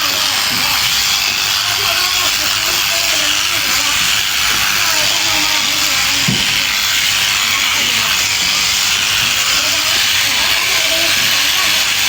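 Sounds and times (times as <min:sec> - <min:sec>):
electric sheep shears running: 0:00.0 - 0:12.0.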